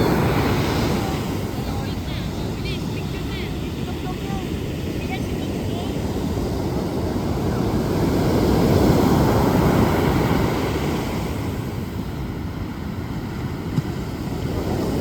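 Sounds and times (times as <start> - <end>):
ocean surf washing ashore: 0.0 - 15.0.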